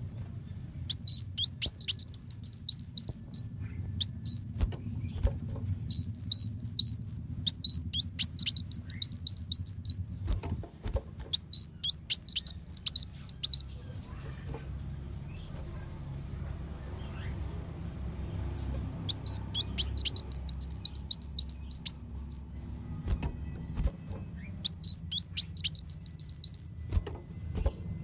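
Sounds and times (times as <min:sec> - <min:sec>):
low steady hum: 0:00.0 - 0:28.0
bird singing high chirps: 0:00.4 - 0:28.0.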